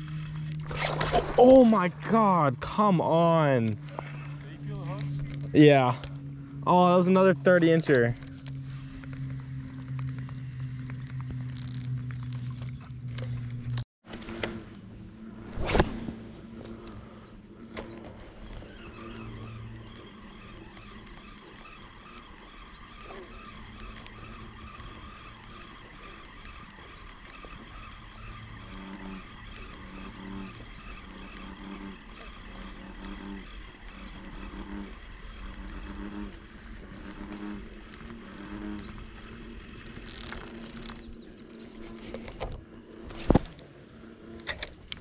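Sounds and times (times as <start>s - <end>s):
fishing reel whirring: 0.0s - 2.6s, 3.3s - 15.4s, 16.2s - 45.0s.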